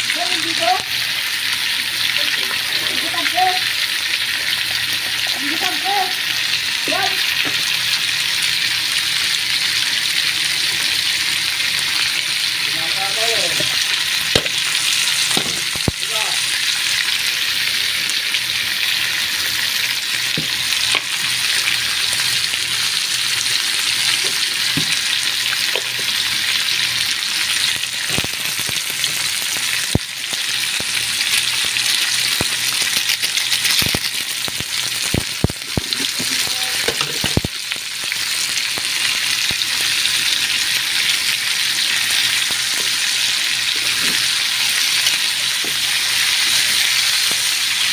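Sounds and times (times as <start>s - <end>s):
chicken sizzling in a pan: 0.0s - 47.9s.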